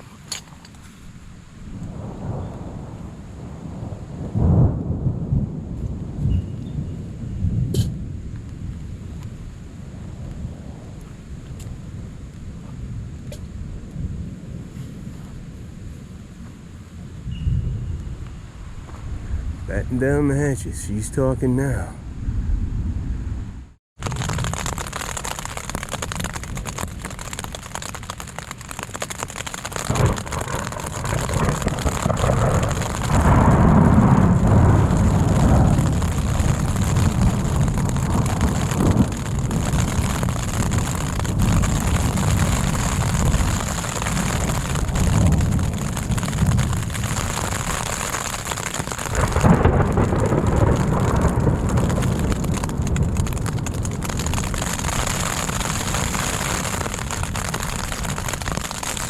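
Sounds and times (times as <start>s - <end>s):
steady rain: 0.0s - 17.3s, 24.0s - 59.0s
deep rolling thunder: 1.7s - 14.8s, 24.0s - 59.0s.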